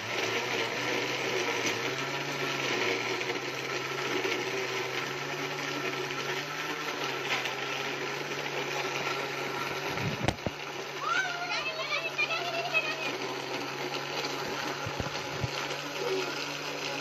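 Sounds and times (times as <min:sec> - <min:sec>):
blender crushing ice: 0:00.0 - 0:17.0.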